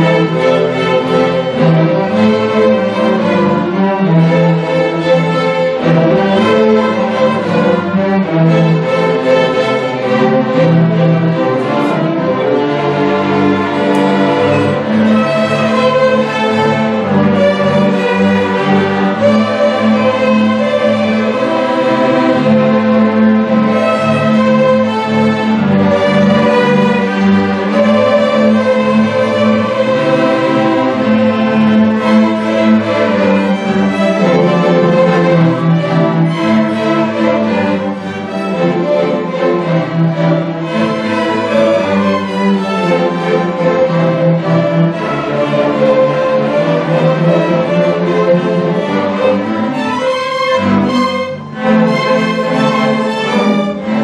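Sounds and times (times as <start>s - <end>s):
string orchestra playing: 0.0s - 54.0s.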